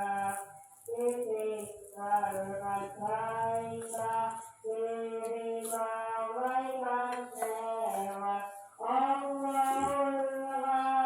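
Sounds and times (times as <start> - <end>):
voice chanting over loudspeaker: 0.0 - 11.0.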